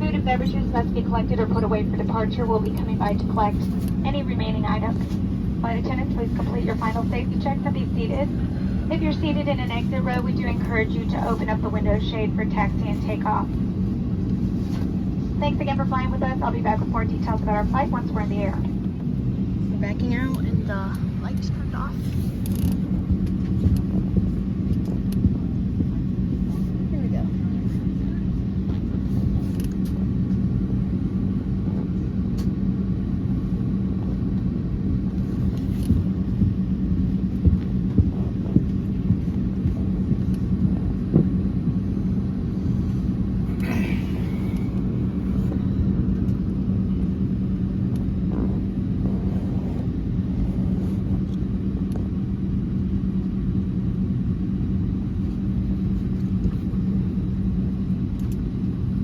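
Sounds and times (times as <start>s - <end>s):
aircraft cabin low rumble and hum: 0.0s - 59.0s.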